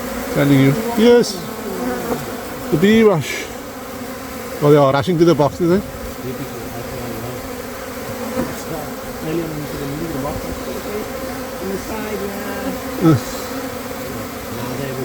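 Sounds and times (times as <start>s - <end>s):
honeybee colony buzzing: 0.0s - 15.0s.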